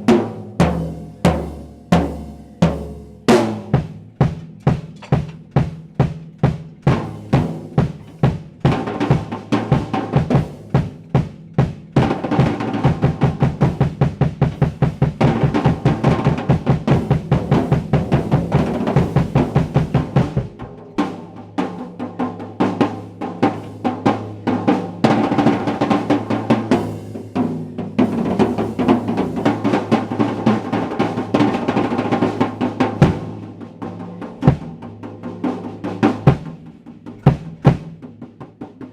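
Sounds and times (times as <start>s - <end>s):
drum kit solo: 0.0s - 38.9s.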